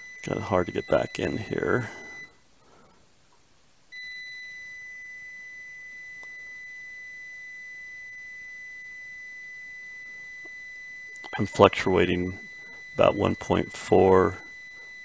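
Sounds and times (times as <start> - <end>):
multimeter continuity beep: 0.0 - 2.4, 3.9 - 15.0.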